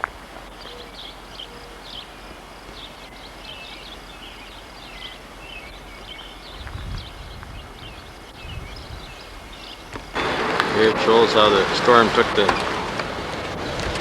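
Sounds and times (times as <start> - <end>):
small birds chirping: 0.0 - 14.0
steady outdoor hiss: 0.0 - 14.0.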